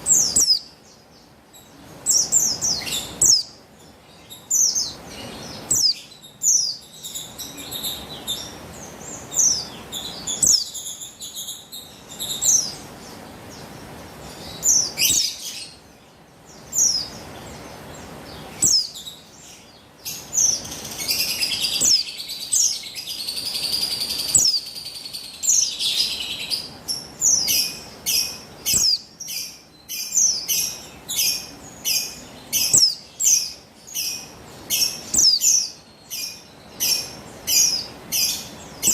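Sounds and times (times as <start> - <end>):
bird twittering: 0.0 - 1.0, 1.6 - 13.7, 16.6 - 38.9
bird high chirps: 0.0 - 38.9.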